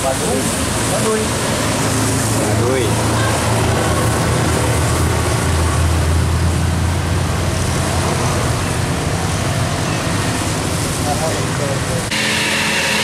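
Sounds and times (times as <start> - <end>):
coach engine rumbling: 0.0 - 13.0
motorcycles passing: 0.0 - 13.0
tyre noise on wet road: 0.0 - 13.0.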